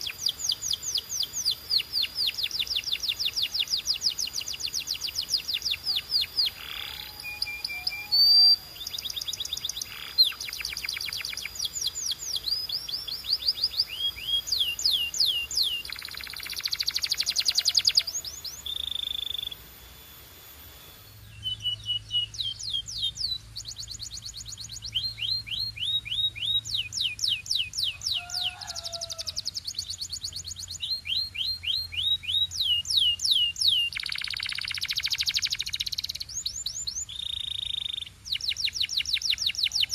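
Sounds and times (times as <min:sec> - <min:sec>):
canary singing: 0:00.0 - 0:39.9
faint low hum: 0:00.0 - 0:39.9.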